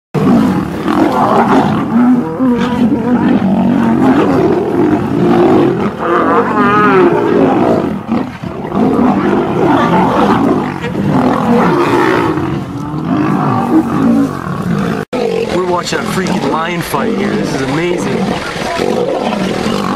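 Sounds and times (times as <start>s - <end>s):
lions snarling and roaring: 0.2s - 19.9s.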